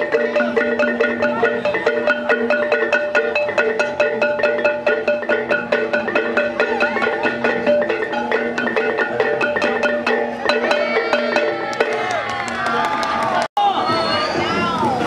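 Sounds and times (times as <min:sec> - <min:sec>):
gamelan metallophones playing: 0:00.0 - 0:12.9.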